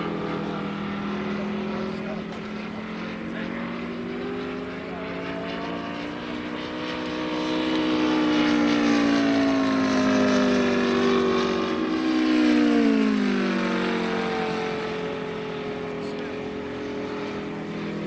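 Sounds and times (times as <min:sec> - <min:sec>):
model plane engine droning: 0:00.0 - 0:18.0.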